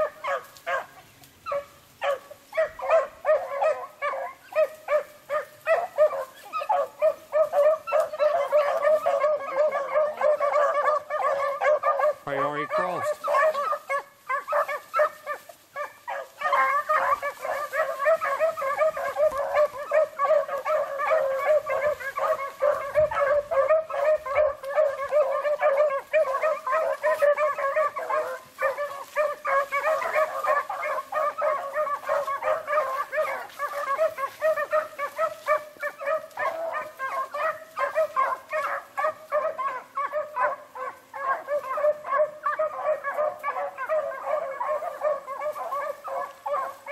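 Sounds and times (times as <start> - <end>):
pack of dogs baying: 0.0 - 46.9.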